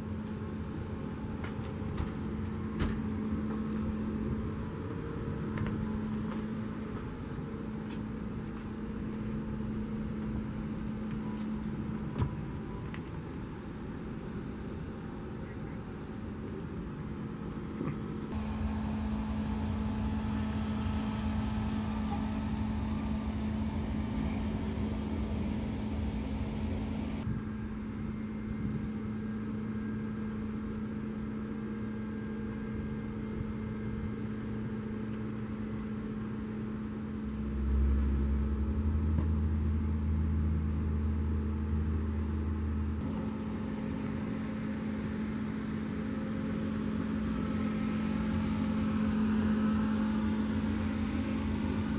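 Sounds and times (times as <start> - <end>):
low rumble: 0.0 - 51.9
steady mechanical hum: 0.0 - 51.9.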